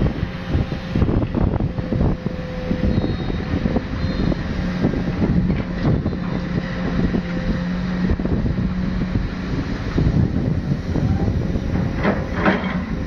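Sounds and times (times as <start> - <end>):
diesel engine running: 0.0 - 13.0
wind buffeting microphone: 0.0 - 13.0.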